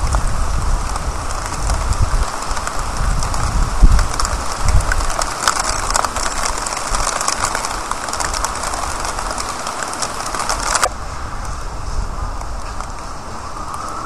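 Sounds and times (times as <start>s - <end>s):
raindrops ticking: 0.0s - 11.0s, 12.4s - 14.0s
rain hissing: 0.0s - 14.0s.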